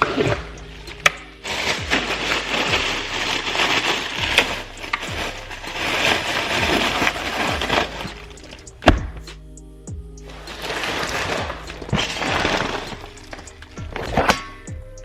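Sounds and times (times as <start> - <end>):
frozen packages rustling and clattering: 0.0 - 8.8, 10.3 - 13.8.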